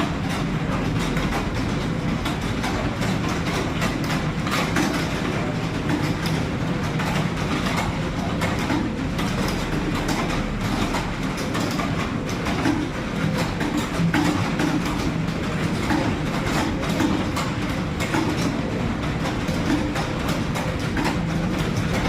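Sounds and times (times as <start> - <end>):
rapid keyboard typing: 0.0 - 22.0.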